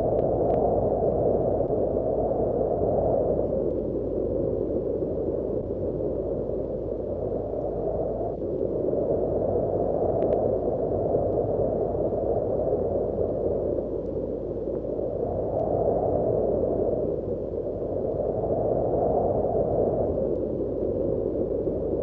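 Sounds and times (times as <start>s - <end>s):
wind blowing: 0.0s - 22.0s.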